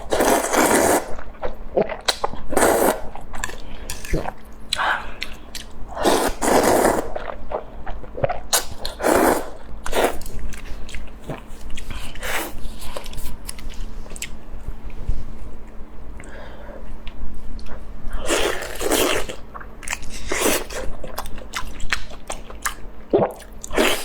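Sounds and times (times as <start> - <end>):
person chewing food: 0.0 - 14.4, 17.0 - 24.0.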